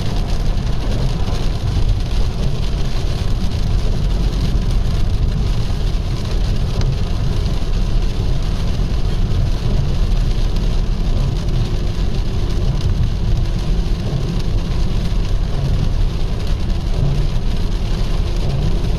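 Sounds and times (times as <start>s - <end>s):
rain on car roof: 0.0s - 18.9s
road and engine rumble: 0.0s - 18.9s.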